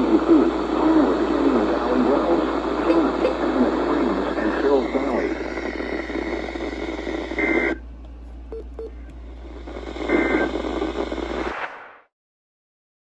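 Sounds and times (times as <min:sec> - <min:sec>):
steady low hum: 0:00.0 - 0:11.9
hissy radio reception: 0:00.0 - 0:12.1.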